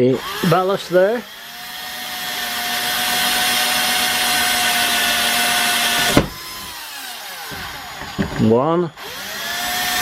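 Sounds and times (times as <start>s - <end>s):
electric drill whining: 0.0s - 10.0s.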